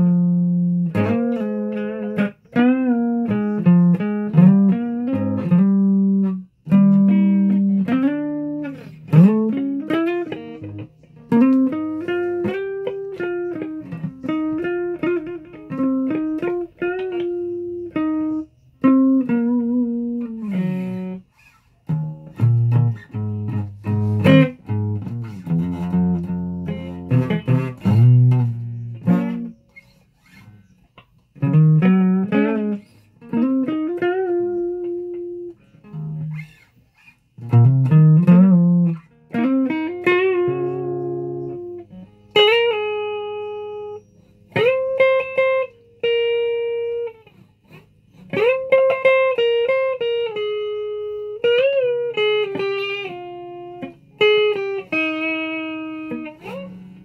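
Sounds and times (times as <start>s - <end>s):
guitar melody with pitch bends: 0.0s - 57.0s.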